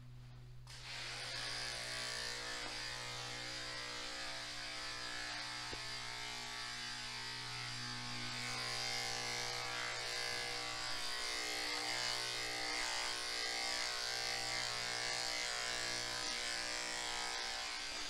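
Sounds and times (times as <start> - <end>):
electric clipper buzzing: 0.7 - 18.0.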